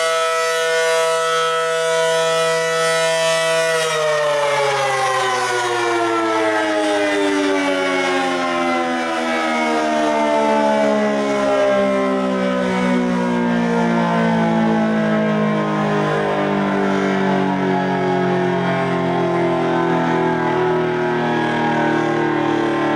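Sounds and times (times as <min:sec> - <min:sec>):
warning siren sliding downward: 0:00.0 - 0:22.9.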